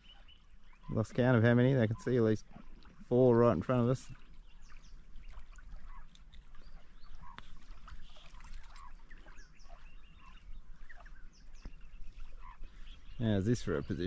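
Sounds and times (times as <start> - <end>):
birds chirping and whistling: 0.0 - 2.8, 3.6 - 14.0.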